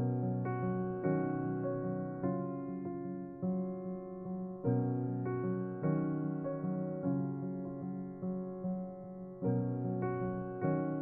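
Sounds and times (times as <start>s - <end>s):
soft keyboard chords: 0.0s - 11.0s.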